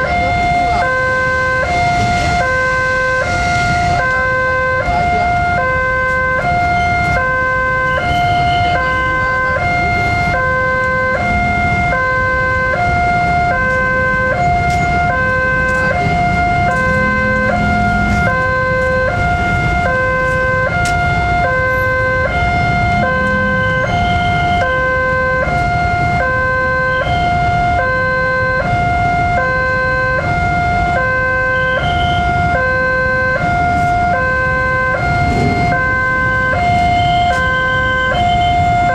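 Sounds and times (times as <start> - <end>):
motorcycle traffic rumble: 0.0 - 38.9
two-tone crossing warning alarm: 0.0 - 38.9.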